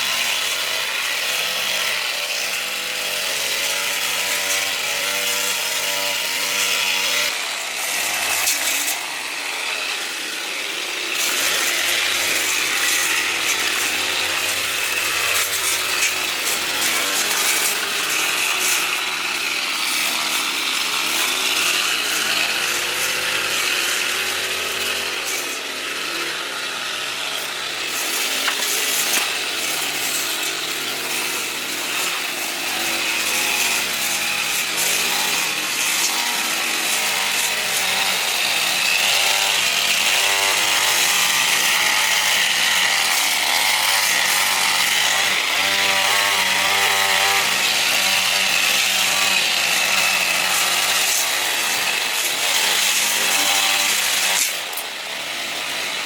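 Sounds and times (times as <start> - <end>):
power tool motor cutting: 0.0 - 56.0.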